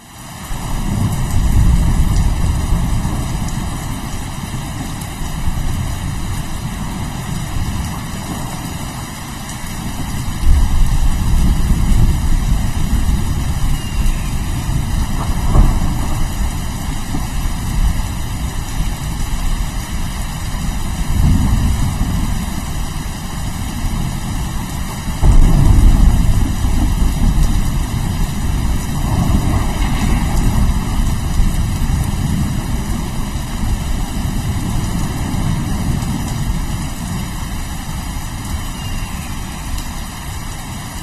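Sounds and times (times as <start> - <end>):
steady rain: 0.0 - 41.0
rolling thunder: 0.6 - 8.9, 10.0 - 19.5, 20.5 - 37.6.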